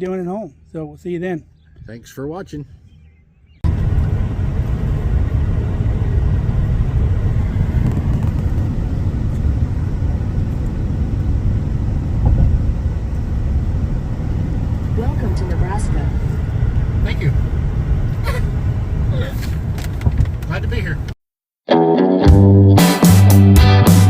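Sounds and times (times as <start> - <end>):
vehicle rumbling on road: 0.0 - 21.2.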